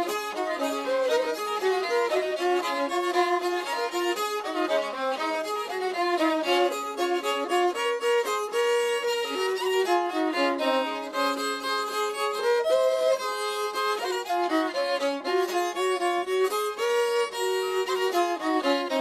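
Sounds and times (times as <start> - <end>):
bowed fiddle melody: 0.0 - 19.0.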